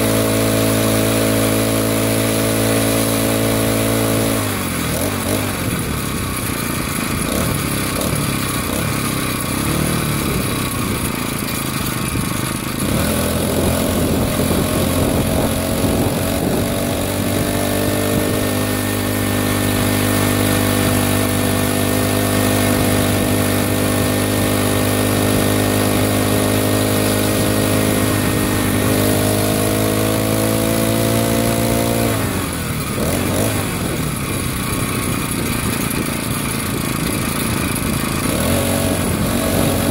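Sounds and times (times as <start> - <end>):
small bicycle engine: 0.0 - 39.9
wind and road noise: 0.0 - 39.9.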